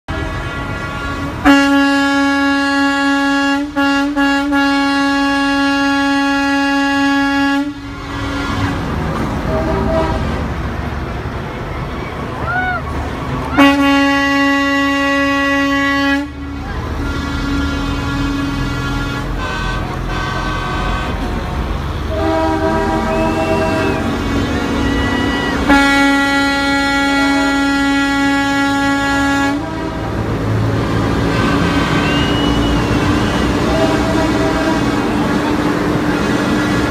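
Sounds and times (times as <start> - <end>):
truck air horn blast: 0.1 - 10.6, 13.4 - 36.9
low diesel rumble: 0.1 - 36.9.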